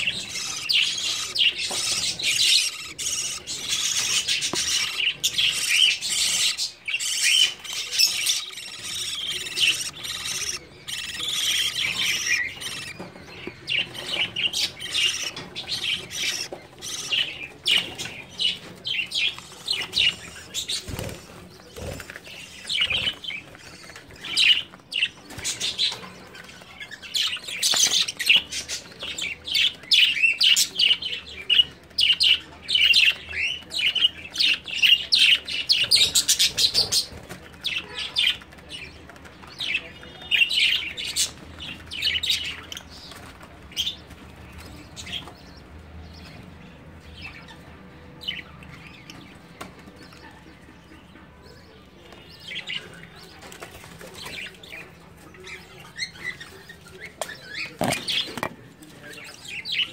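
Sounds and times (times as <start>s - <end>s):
budgerigars chirping and chattering: 0.0s - 59.9s.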